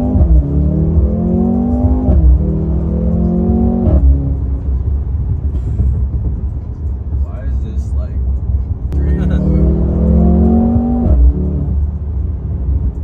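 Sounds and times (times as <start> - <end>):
car engine accelerating: 0.0 - 7.2, 8.4 - 13.0.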